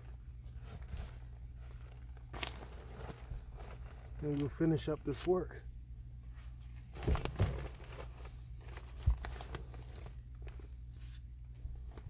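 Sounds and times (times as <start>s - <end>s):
insulation rustling and crinkling: 0.0s - 12.0s
steady low hum: 0.0s - 12.0s.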